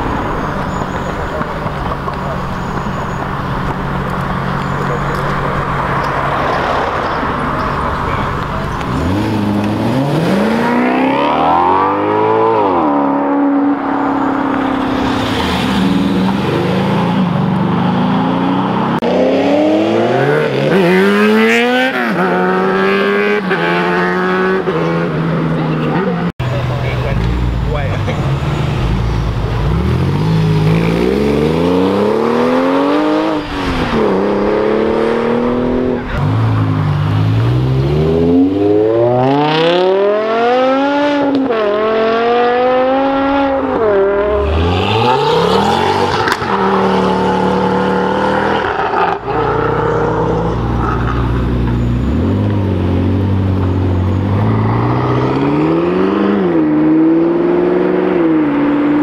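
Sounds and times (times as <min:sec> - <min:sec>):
car engines accelerating hard: 0:00.0 - 0:59.0.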